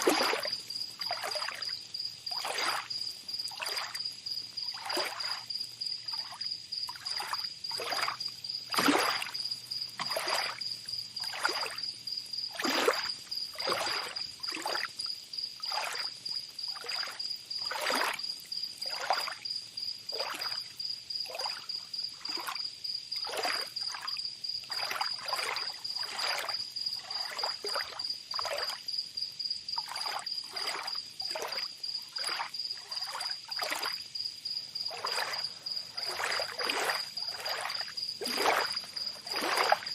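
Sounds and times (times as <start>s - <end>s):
small waves lapping and splashing: 0.0s - 28.9s, 29.7s - 39.9s
high insect trill: 0.0s - 39.9s.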